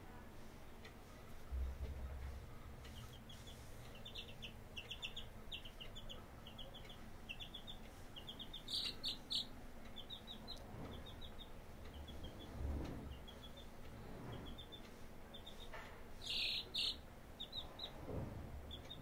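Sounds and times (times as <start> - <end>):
chick peeping: 2.8 - 19.0.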